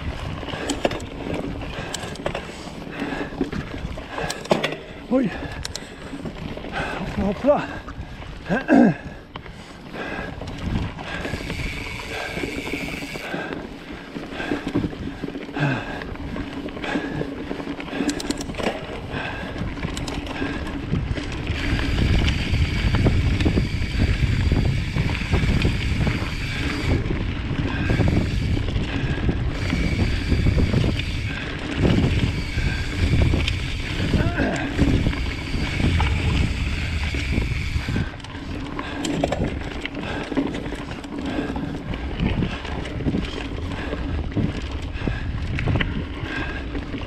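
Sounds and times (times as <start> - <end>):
bike rattling: 0.0 - 47.0
bike tyres rolling on dirt: 0.0 - 47.0
wind noise on microphone: 0.0 - 47.0.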